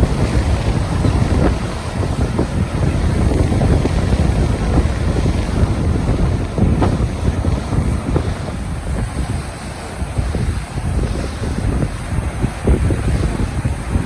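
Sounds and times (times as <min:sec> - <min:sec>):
crashing churning water: 0:00.0 - 0:14.0
wind buffeting microphone: 0:00.0 - 0:14.0.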